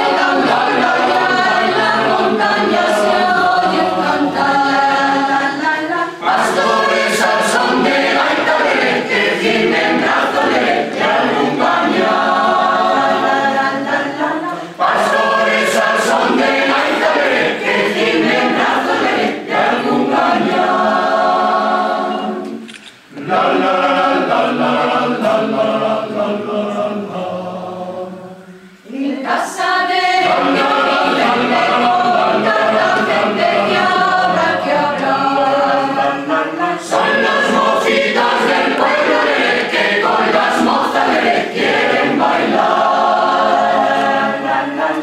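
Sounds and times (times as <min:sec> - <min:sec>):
mixed choir singing in harmony: 0:00.0 - 0:45.0.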